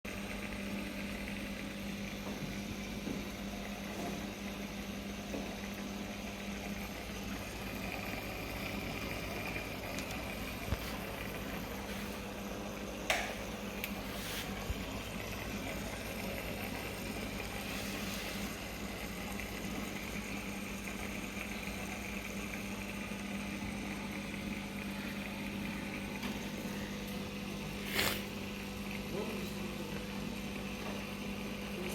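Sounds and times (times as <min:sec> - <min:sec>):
aquarium pump humming: 0:00.1 - 0:31.9
bubbling water: 0:00.1 - 0:31.9.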